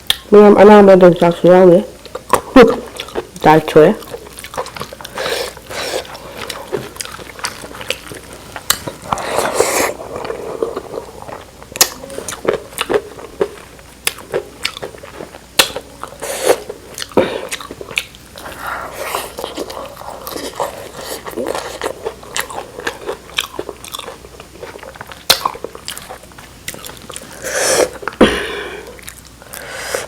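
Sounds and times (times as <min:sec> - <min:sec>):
person chewing and biting: 0:02.0 - 0:03.4, 0:04.0 - 0:30.0.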